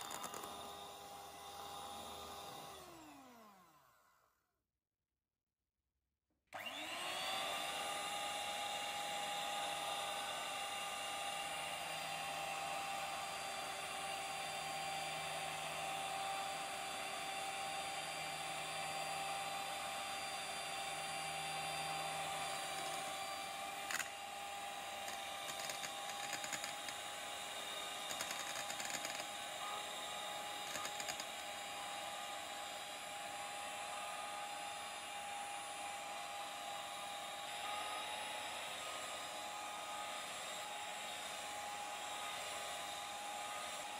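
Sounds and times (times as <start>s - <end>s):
electric hand mixer whining: 0.0s - 4.4s, 6.6s - 43.9s.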